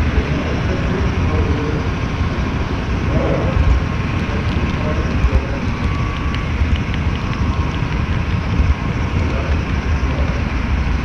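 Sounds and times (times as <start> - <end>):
model train rumbling on track: 0.0 - 11.0.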